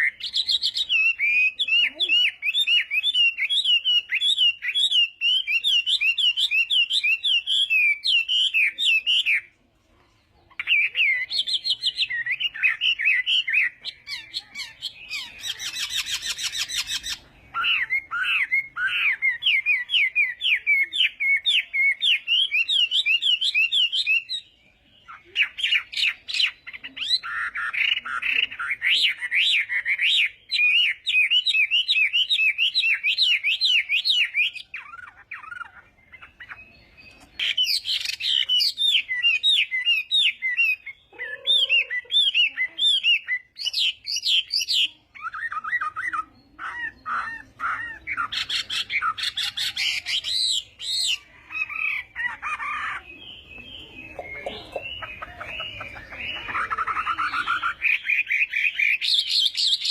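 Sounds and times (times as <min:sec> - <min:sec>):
bird singing whistled phrases: 0:00.0 - 0:09.5, 0:10.6 - 0:59.9.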